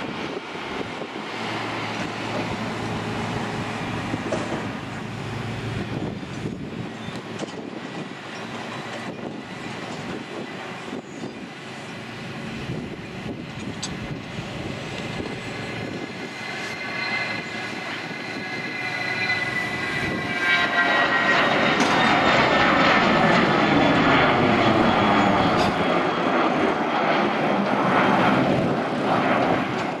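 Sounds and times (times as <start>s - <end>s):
high jet whine: 0.0s - 30.0s
jet engines at takeoff thrust: 0.0s - 30.0s.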